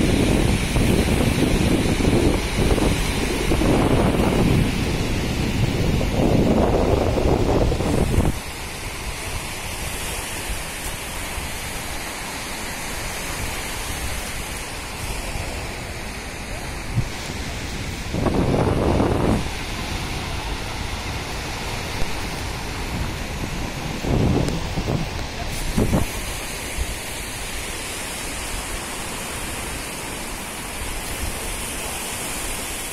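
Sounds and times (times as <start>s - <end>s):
low rush of water: 0.0s - 32.9s
sea waves breaking on beach: 0.0s - 32.9s
wind on microphone: 0.0s - 32.9s.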